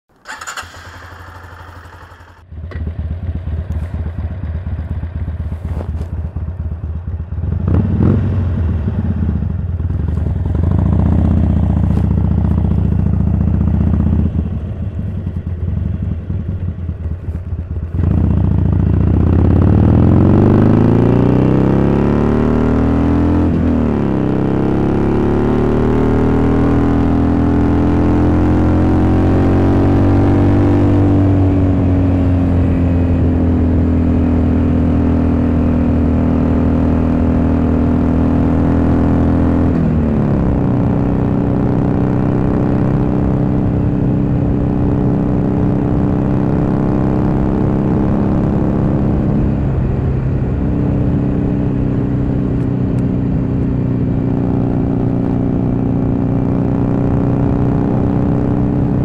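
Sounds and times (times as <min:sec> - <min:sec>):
motorcycle engine: 0:00.1 - 0:59.0.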